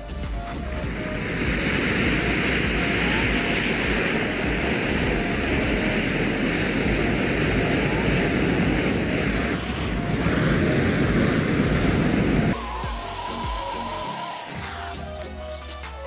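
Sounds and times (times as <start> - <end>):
matches burning with rushing hiss: 0.0 - 16.0.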